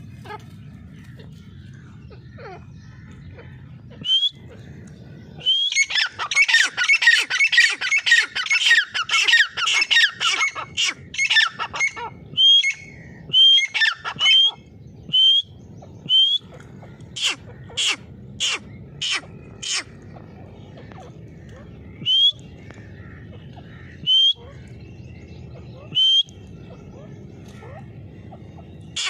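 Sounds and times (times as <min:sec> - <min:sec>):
francolin calling: 0:01.5 - 0:29.0.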